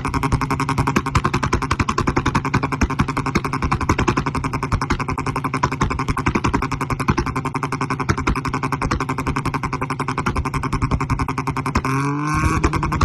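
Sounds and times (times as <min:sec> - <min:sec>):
car engine exhaust pulses: 0:00.0 - 0:13.0.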